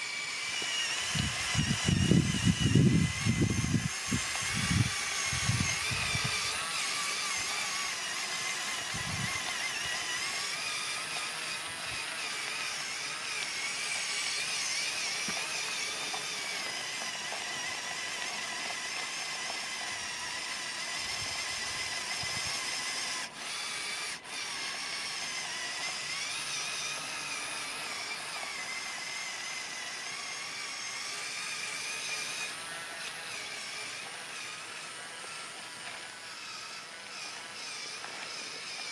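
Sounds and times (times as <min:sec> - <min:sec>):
toy truck motors whining: 0:00.0 - 0:38.9.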